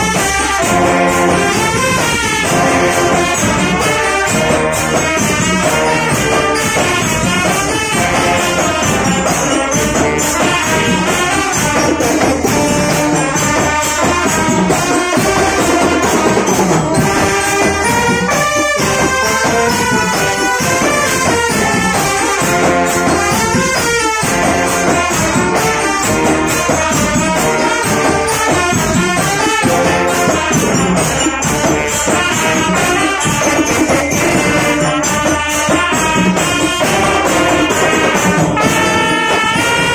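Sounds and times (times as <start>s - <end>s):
brass playing melody: 0.0s - 39.9s
marching bells struck: 0.0s - 39.9s
marching drums beat: 0.0s - 39.9s.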